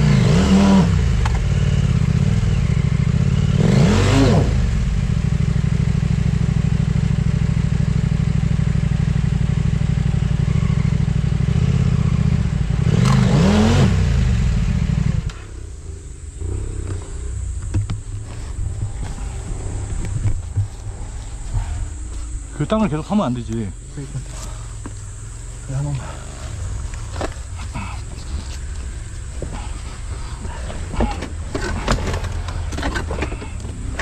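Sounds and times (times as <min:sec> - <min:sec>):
off-road motorcycle engine revving: 0:00.0 - 0:34.0.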